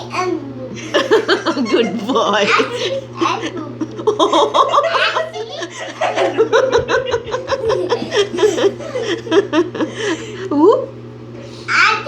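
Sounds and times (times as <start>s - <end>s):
steady low hum: 0.0s - 12.0s
people laughing: 0.7s - 10.8s.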